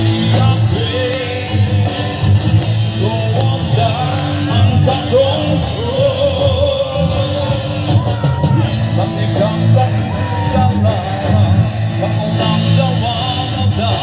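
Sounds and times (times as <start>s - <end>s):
live rock band: 0.0s - 14.0s
singer holding long notes: 0.0s - 14.0s.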